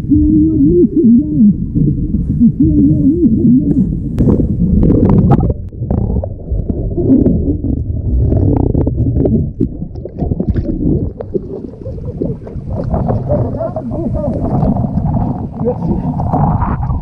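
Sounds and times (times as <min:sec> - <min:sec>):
wind buffeting microphone: 0:01.8 - 0:17.0.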